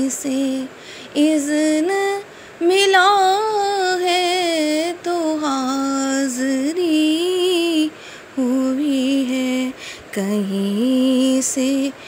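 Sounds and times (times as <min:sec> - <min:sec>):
person singing slow melody: 0:00.0 - 0:12.0.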